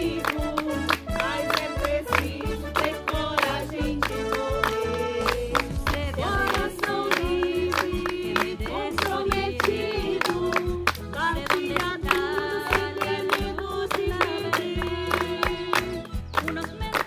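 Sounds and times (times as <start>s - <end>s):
hand clapping: 0.0s - 17.0s
women singing together: 0.0s - 17.0s.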